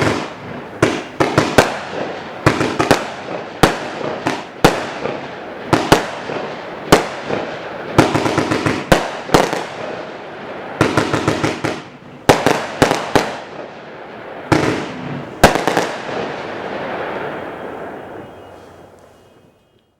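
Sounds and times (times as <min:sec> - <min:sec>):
fireworks bangs and crackling: 0:00.0 - 0:19.1.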